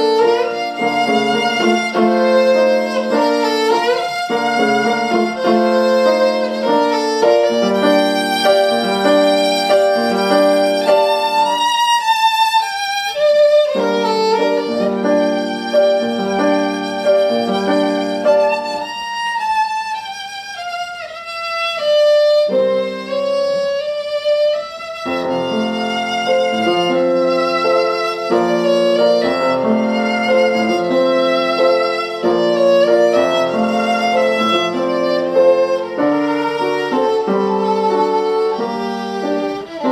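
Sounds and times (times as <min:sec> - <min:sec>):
classical solo instrument: 0:00.0 - 0:39.9.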